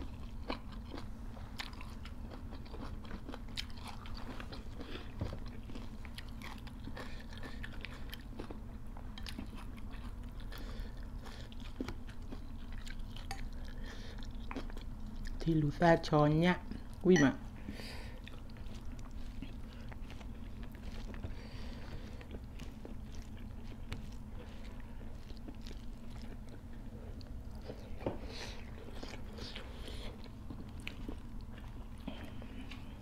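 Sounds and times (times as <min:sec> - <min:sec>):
people chewing food: 0:00.0 - 0:15.8, 0:17.6 - 0:33.0.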